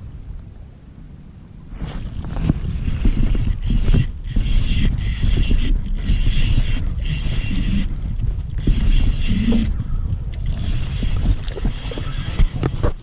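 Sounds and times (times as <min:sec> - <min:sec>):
wind rumble on microphone: 0:00.0 - 0:13.0
fishing reel whirring and clicking: 0:02.0 - 0:13.0.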